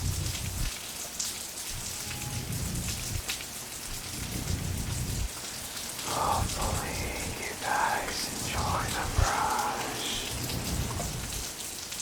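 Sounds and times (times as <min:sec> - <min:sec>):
heavy rain hiss: 0:00.0 - 0:12.0.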